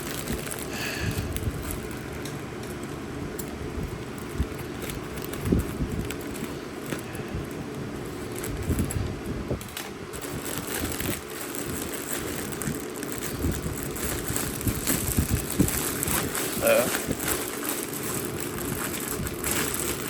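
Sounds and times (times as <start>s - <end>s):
plastic packaging crinkling: 0.0s - 20.0s
small crackles and knocks: 0.0s - 20.0s.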